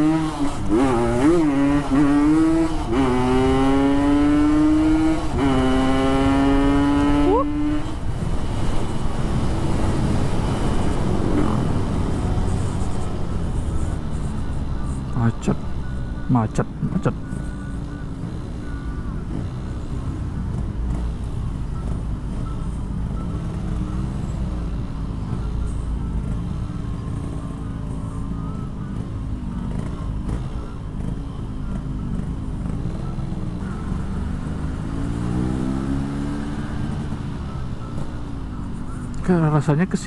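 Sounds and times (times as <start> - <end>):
two-stroke motorcycle engine: 0.0 - 40.0.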